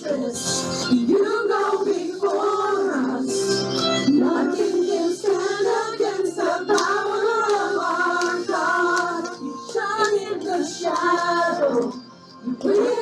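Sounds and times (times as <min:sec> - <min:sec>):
group singing praise song: 0:01.1 - 0:03.4, 0:04.1 - 0:13.0.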